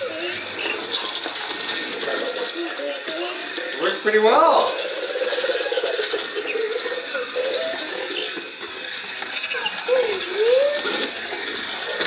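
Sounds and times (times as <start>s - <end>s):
toy robot motor whirring: 0.0s - 12.0s.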